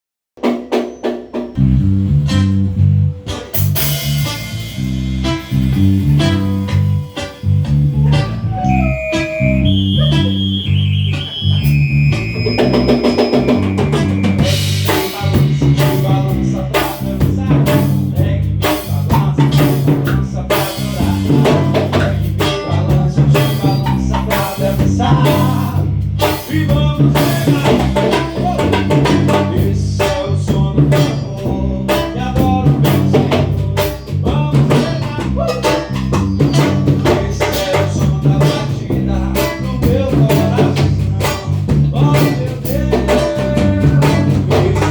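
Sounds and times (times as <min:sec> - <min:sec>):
drum kit busy beat: 0:00.4 - 0:44.9
bass line: 0:01.6 - 0:44.9.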